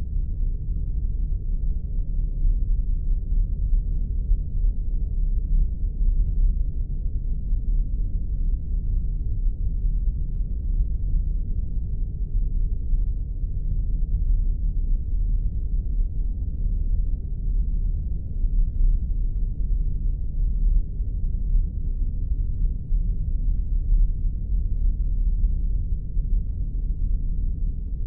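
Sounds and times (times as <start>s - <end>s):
deep fluttering low rumble: 0.0s - 28.0s.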